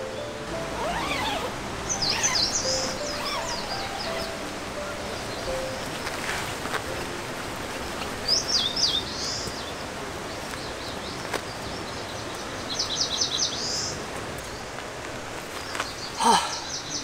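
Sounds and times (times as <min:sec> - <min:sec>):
songbird chirping: 0:00.0 - 0:14.8, 0:15.4 - 0:17.0
steady outdoor hiss: 0:00.0 - 0:17.0.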